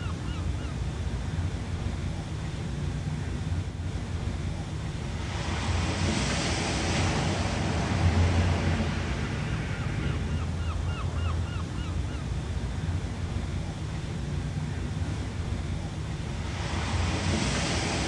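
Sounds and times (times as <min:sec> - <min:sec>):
ocean surf washing: 0:00.0 - 0:18.0.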